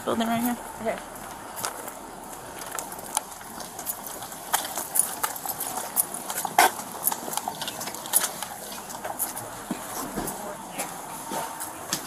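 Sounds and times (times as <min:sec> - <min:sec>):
footsteps on hard ground: 0:00.5 - 0:12.0.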